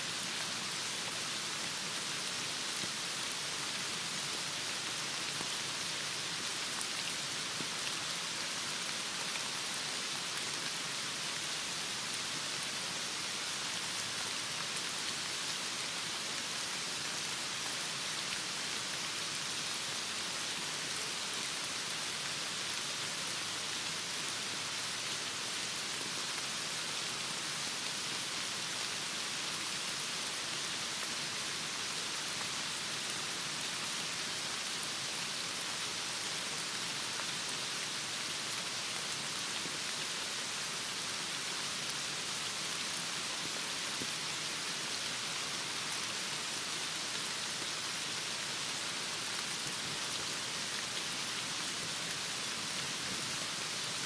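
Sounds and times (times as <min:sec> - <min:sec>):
heavy rain falling: 0:00.1 - 0:54.0.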